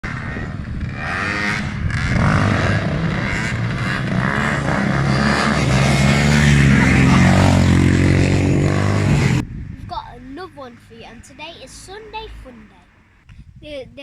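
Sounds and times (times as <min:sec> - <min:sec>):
vehicle engines revving: 0:00.0 - 0:13.3.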